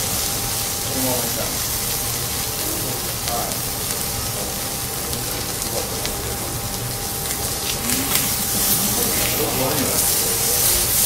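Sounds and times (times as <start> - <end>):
steak sizzling on griddle: 0.0 - 11.0
small crackles: 0.1 - 11.0.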